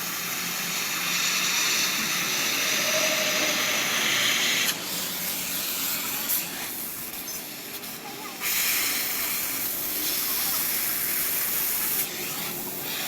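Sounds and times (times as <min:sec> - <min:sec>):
loud pressurized hiss: 0:00.0 - 0:07.2, 0:08.4 - 0:13.0.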